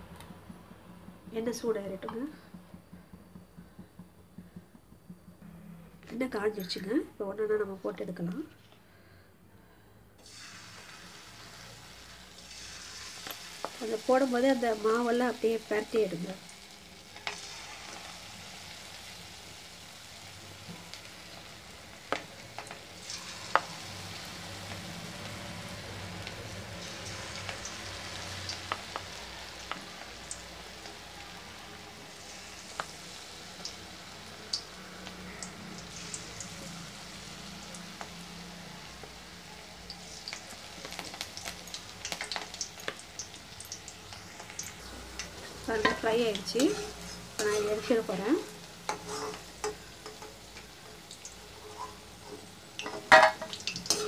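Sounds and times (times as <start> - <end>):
food deep-frying in hot oil: 10.2 - 54.0.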